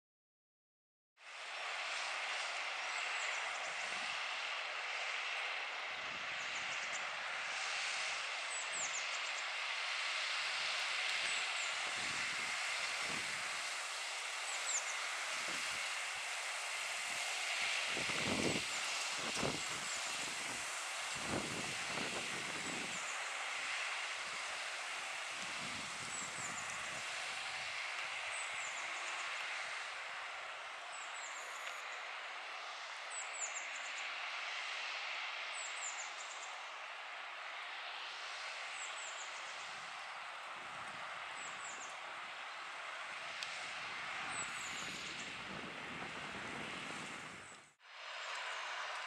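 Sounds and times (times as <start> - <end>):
distant tractor engine drone: 1.3 - 49.0.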